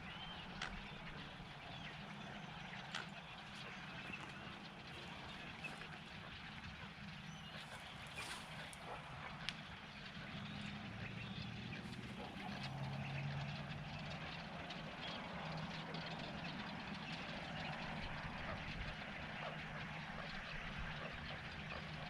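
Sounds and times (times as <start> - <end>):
distant engine drone: 0.0 - 22.0.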